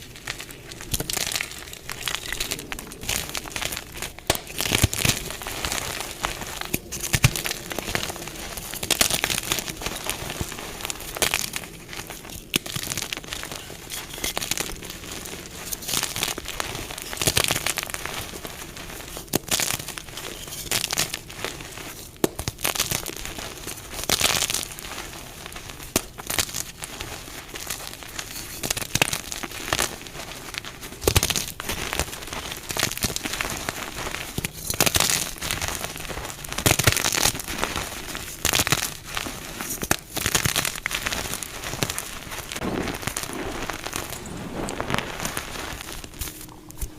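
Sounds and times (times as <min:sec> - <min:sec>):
chalk blocks crunching: 0:00.0 - 0:46.9.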